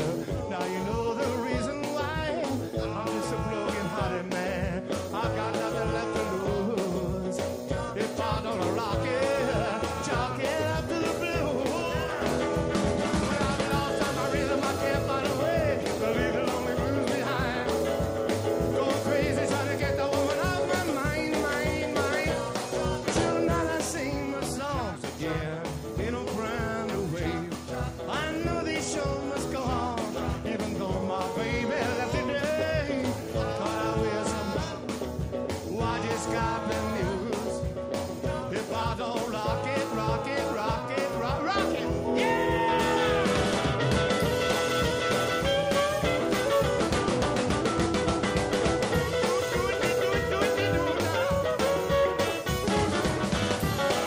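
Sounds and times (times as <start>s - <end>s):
rock and roll song with band: 0.0s - 54.0s.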